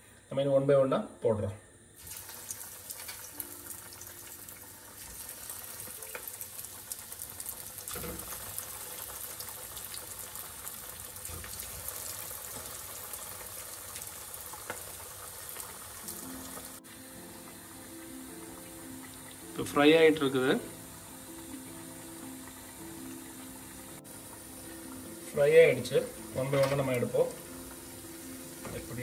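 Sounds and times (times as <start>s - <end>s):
chicken sizzling in hot oil: 2.0s - 29.0s.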